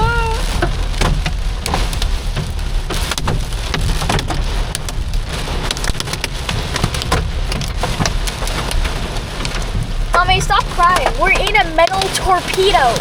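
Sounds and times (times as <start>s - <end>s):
heavy rain on car roof: 0.0s - 13.0s
low rumble of car: 0.0s - 13.0s.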